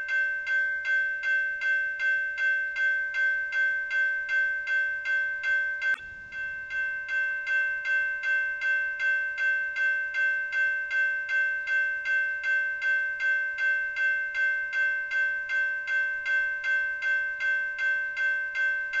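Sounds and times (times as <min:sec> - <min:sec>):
railroad crossing bell ringing: 0:00.0 - 0:19.0.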